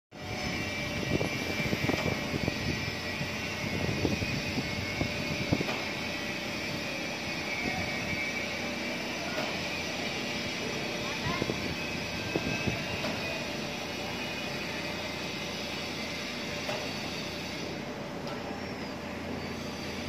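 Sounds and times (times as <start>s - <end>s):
high whine: 0.1s - 20.0s
diesel crane engine under load: 0.2s - 20.0s.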